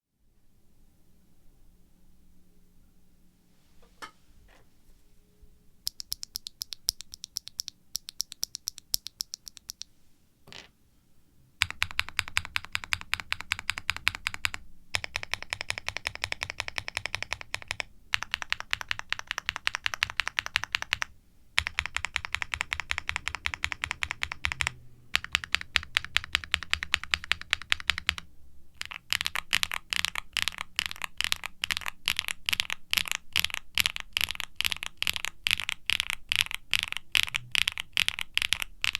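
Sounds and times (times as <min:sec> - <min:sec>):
mechanical keyboard typing: 0:05.9 - 0:09.9, 0:11.6 - 0:38.9.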